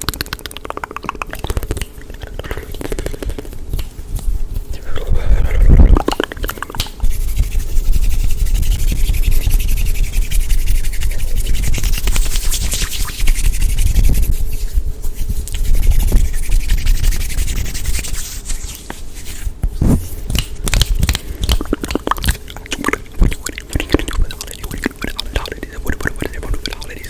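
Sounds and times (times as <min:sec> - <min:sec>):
hands rubbing on microphone: 0:01.4 - 0:21.8, 0:23.2 - 0:27.0.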